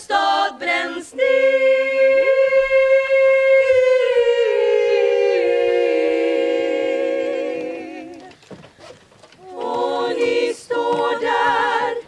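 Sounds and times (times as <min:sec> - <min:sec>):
choir singing a chord: 0:00.0 - 0:08.2, 0:09.5 - 0:12.0.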